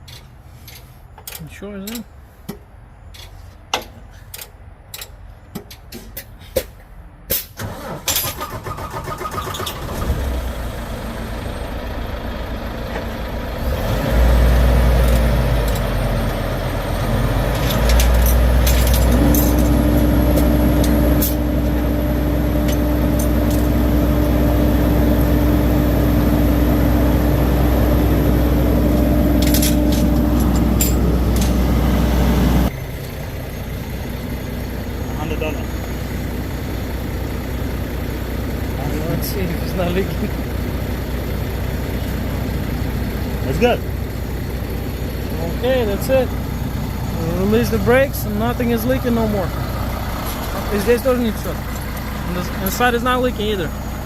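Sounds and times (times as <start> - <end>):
diesel truck engine idling: 7.6 - 54.0.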